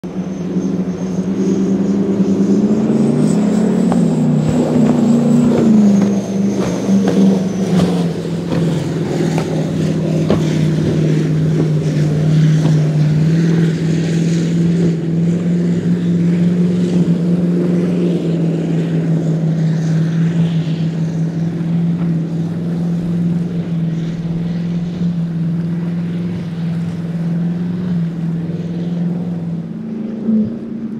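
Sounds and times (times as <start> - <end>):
powerboat engine running fast: 0.0 - 30.9.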